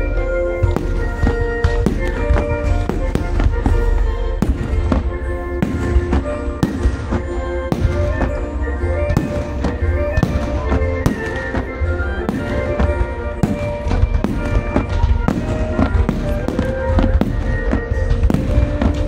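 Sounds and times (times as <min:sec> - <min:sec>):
fireworks bangs: 0:00.0 - 0:19.0
music playing loudly: 0:00.0 - 0:19.0.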